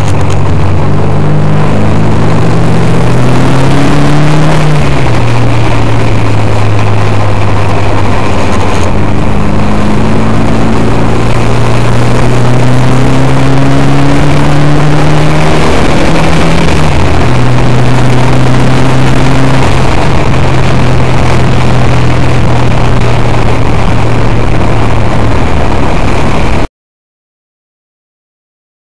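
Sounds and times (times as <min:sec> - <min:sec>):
car engine from inside cabin: 0:00.0 - 0:26.6
constant rushing noise: 0:00.0 - 0:26.7.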